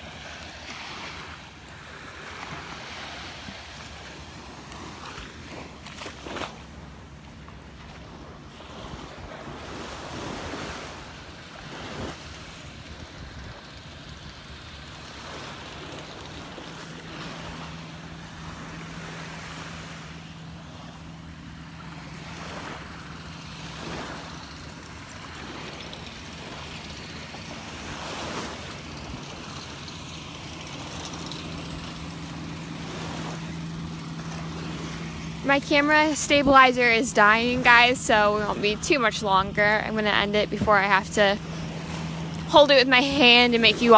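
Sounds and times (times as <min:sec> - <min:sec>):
small waves lapping on sand: 0:00.0 - 0:43.9
steady low hum: 0:00.0 - 0:43.9.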